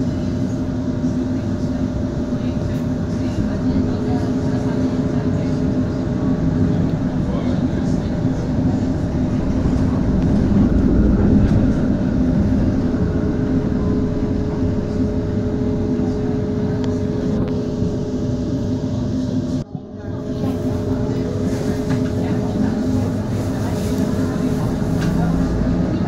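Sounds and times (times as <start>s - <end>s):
tram rumbling: 0.0s - 26.0s.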